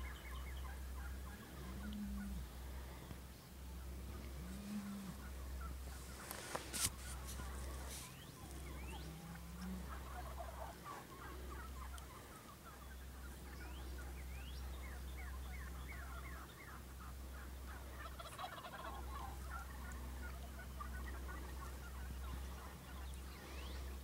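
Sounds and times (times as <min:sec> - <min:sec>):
turkey gobbling: 0:00.0 - 0:02.5, 0:03.7 - 0:23.7.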